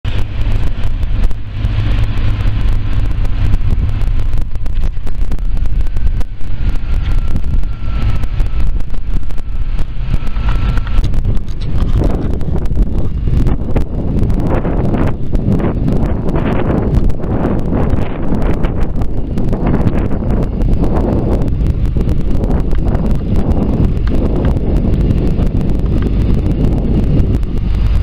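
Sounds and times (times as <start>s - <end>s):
truck engines running: 0.0s - 28.0s
wind buffeting microphone: 0.0s - 28.0s.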